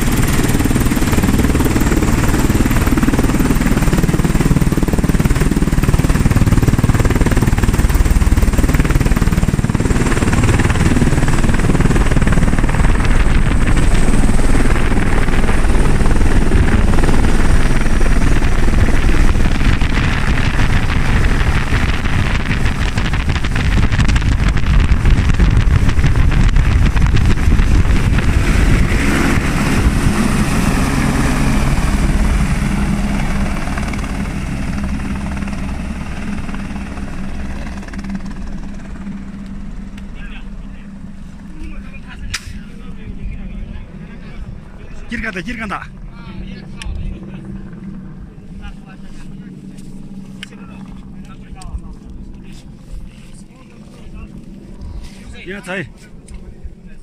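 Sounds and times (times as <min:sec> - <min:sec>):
helicopter rotor chop: 0:00.0 - 0:57.0
high turbine whine: 0:00.0 - 0:57.0.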